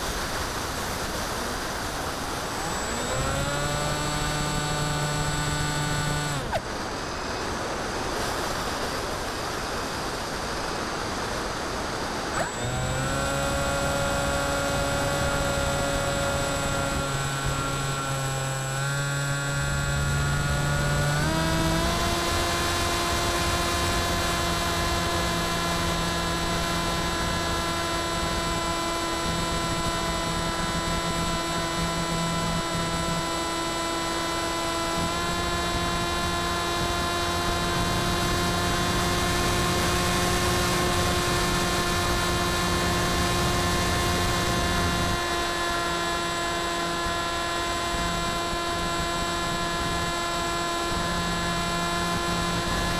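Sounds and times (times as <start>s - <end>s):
electric motor propeller whine: 0.0s - 52.9s.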